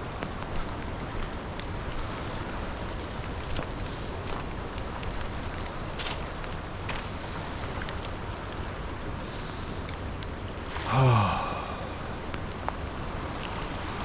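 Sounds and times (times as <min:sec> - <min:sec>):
rain ticks: 0:00.0 - 0:14.0
water rushing over dam: 0:00.0 - 0:14.0.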